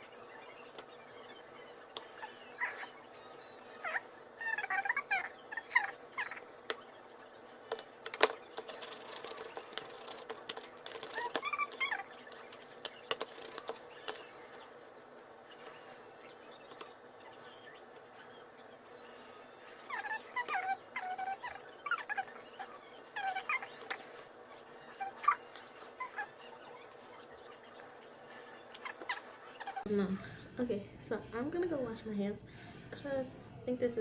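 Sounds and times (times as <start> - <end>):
dog whining: 0.0 - 29.9.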